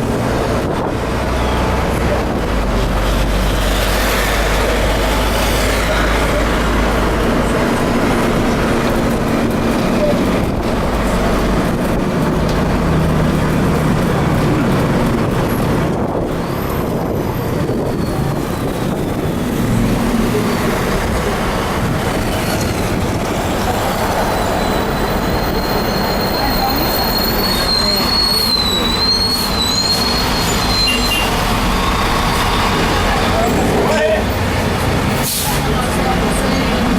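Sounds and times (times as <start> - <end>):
bus diesel engine running: 0.0 - 36.9
road noise: 0.0 - 36.9.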